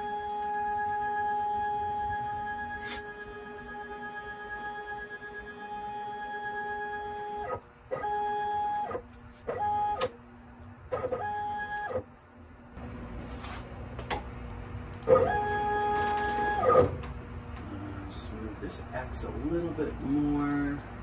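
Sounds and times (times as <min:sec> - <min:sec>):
stepper motors whining: 0:00.0 - 0:12.1, 0:14.5 - 0:21.0.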